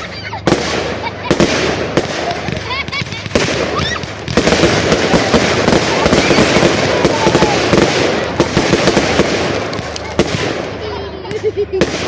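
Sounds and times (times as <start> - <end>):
fireworks crackling bangs: 0.0 - 12.0.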